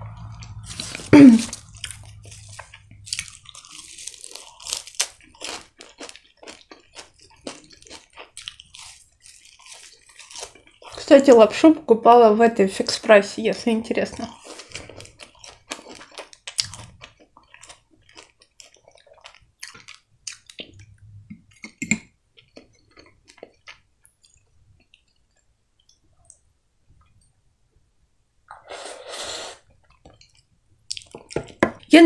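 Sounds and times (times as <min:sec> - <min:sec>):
chewing soft wet food: 0:00.1 - 0:11.0, 0:14.3 - 0:27.4, 0:29.6 - 0:31.6.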